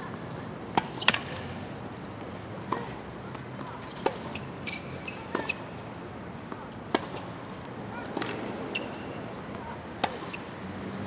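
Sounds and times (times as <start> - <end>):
tennis ball struck by rackets: 0.0 - 5.9, 6.5 - 10.5
tennis ball bouncing on court: 0.0 - 10.6.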